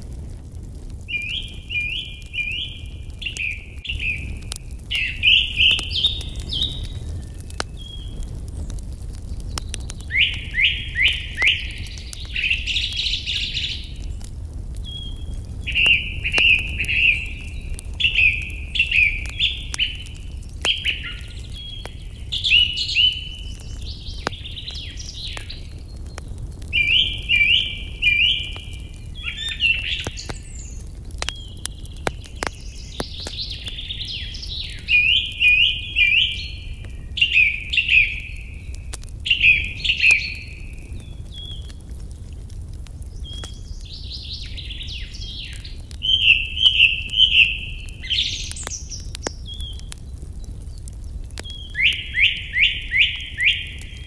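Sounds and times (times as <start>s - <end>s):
fire crackling: 0.0s - 54.0s
songbird chirping: 1.1s - 41.8s, 43.0s - 54.0s.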